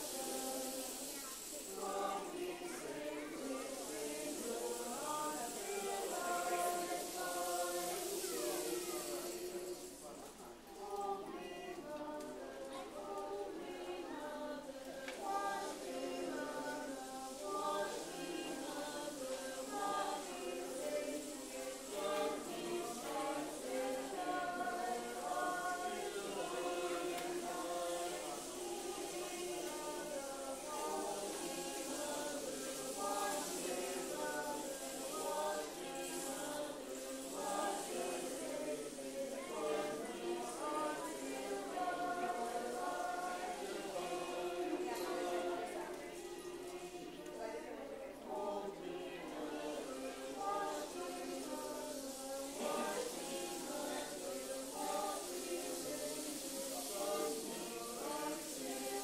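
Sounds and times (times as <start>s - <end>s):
mixed choir singing: 0.0s - 59.0s
rainstick rushing hiss: 0.0s - 59.0s.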